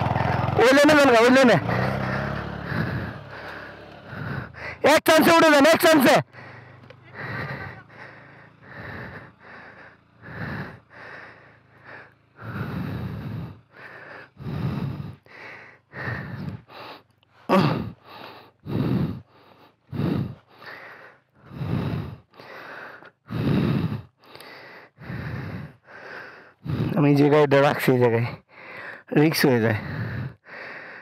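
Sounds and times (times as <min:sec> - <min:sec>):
man panting heavily: 0:00.0 - 0:31.0.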